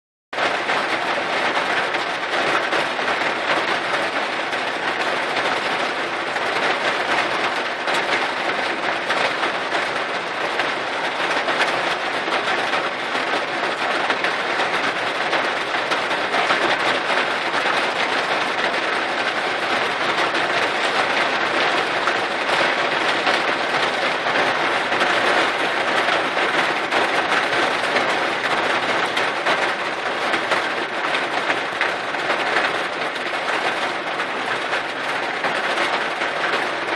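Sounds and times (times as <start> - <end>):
heavy rain on car: 0.3 - 36.9.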